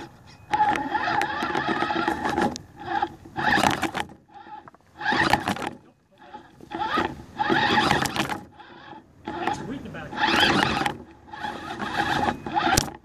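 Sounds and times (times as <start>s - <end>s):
electric motor and gearbox whining: 0.0s - 13.0s
tyres and chassis clacking on wood: 0.0s - 13.0s.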